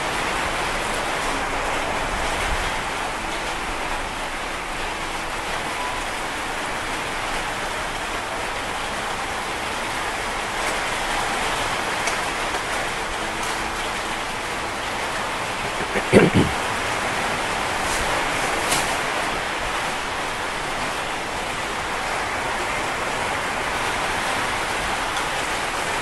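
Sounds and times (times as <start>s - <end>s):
heavy rain on a metal roof: 0.0s - 26.0s.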